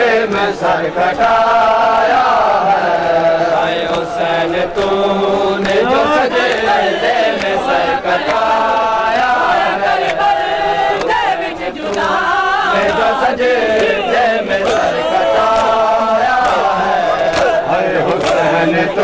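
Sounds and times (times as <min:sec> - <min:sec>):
men chanting a lament in unison: 0:00.0 - 0:19.0.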